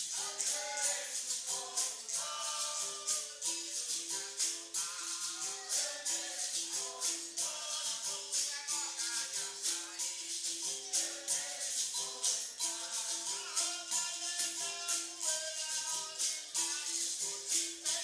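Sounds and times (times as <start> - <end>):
jingling hand percussion: 0.0 - 18.0
person singing: 0.0 - 18.0.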